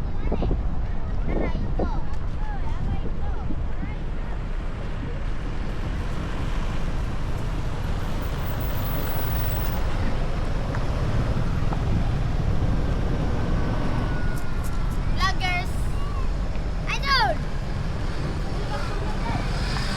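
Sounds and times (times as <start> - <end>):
vehicle road noise rumble: 0.0 - 19.9.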